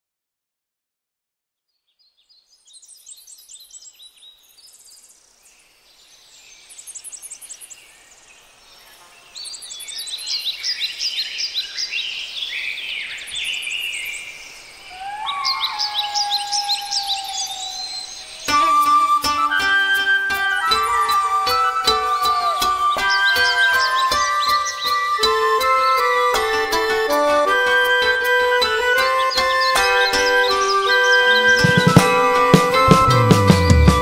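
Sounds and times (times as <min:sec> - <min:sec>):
chorus of birds singing: 0:01.7 - 0:34.0.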